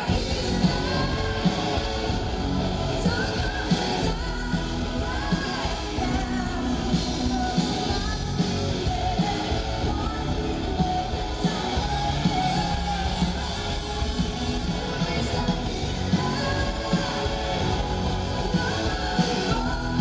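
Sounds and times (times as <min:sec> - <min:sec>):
symphonic metal band playing: 0:00.0 - 0:20.0
woman singing: 0:00.0 - 0:20.0.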